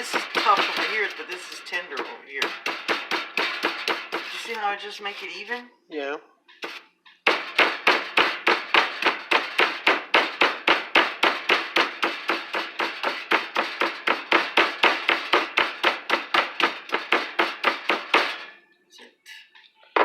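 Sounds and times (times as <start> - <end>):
meat hammer pounding: 0.0 - 4.4, 6.6 - 18.6.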